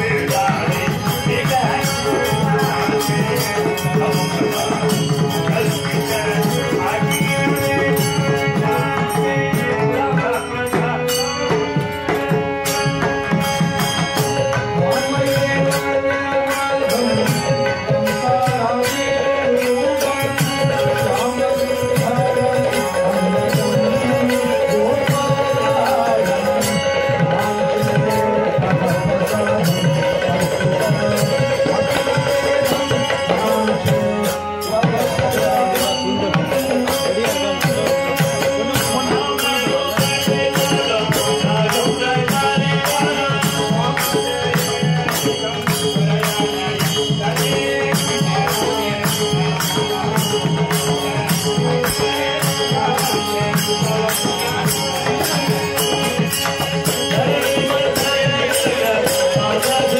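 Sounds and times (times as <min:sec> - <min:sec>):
harmonium drone: 0:00.0 - 0:59.9
men singing devotional song: 0:00.0 - 0:59.9.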